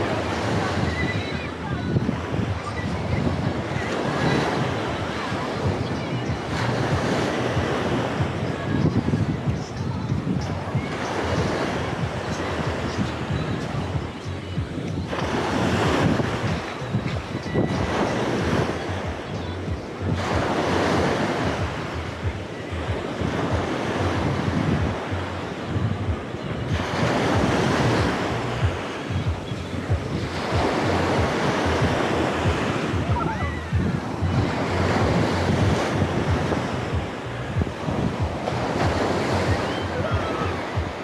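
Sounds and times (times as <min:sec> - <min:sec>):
sea waves breaking on beach: 0:00.0 - 0:41.0
wind buffeting microphone: 0:00.0 - 0:41.0.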